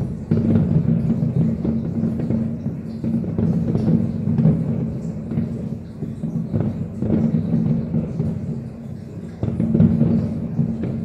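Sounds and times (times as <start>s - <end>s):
distant fireworks booming: 0.0s - 11.0s
fireworks bangs and crackles: 0.0s - 11.0s.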